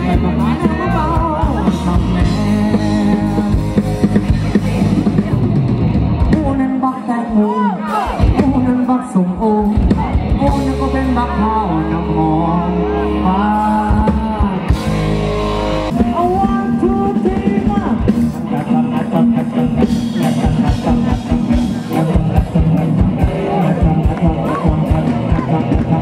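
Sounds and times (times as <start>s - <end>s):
man singing: 0.0s - 5.3s, 6.2s - 26.0s
rock band playing: 0.0s - 26.0s.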